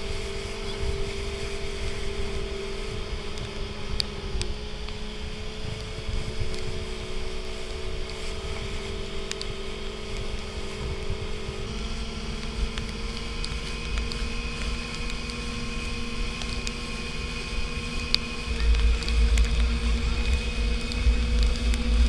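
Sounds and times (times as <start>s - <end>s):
motorboat engine running: 0.0s - 22.0s
wind rumbling on microphone: 0.0s - 22.0s.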